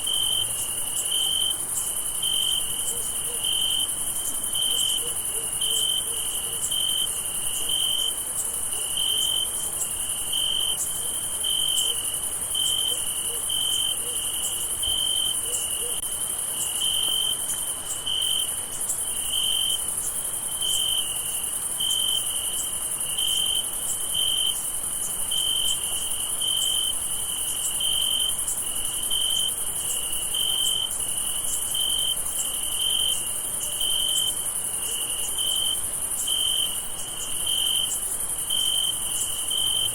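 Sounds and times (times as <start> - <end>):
crickets chirping: 0.0 - 39.9
insect trill: 0.0 - 39.9.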